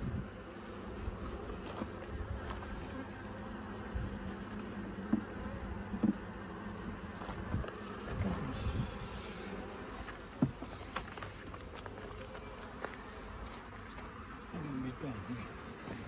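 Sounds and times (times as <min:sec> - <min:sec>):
bee flying past: 0:00.0 - 0:16.0
bees buzzing: 0:00.0 - 0:16.0.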